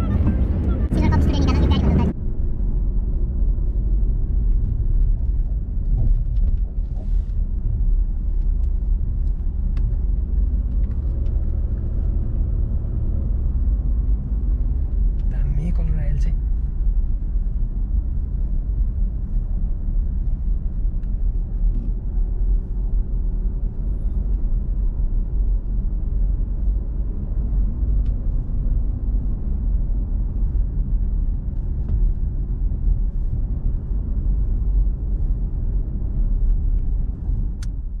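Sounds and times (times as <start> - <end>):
car cabin road noise: 0.0 - 38.0.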